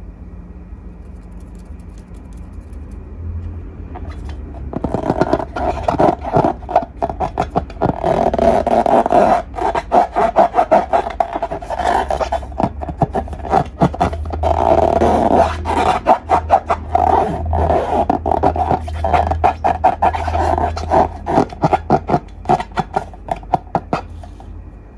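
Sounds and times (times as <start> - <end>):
sticky clicks and crackles: 1.0 - 3.0, 4.0 - 24.3.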